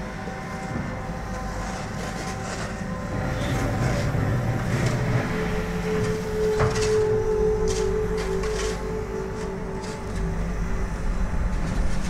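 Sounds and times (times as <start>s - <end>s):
excavator diesel engine running: 0.0s - 12.0s
steady high whine: 0.0s - 12.0s.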